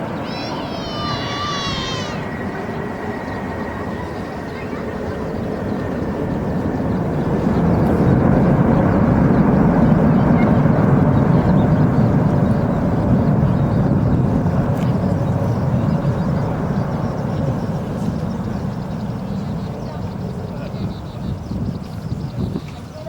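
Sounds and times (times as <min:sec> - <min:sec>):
jet airliner engine roar: 0:00.0 - 0:23.0.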